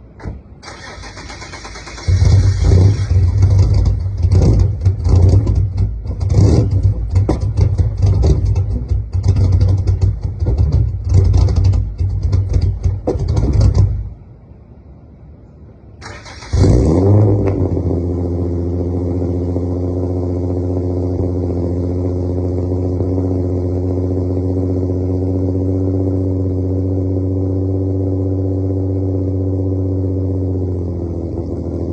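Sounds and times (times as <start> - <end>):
car engine starting and idling: 0.0 - 14.8, 15.8 - 31.9.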